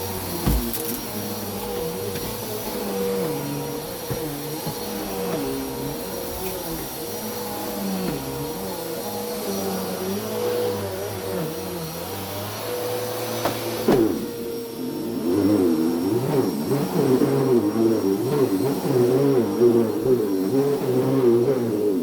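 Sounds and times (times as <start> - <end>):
vacuum cleaner running over carpet: 0.0 - 22.0.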